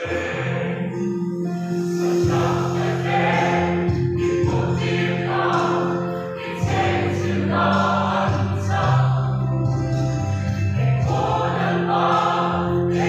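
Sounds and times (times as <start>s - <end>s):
mixed choir singing in harmony: 0.0s - 13.0s.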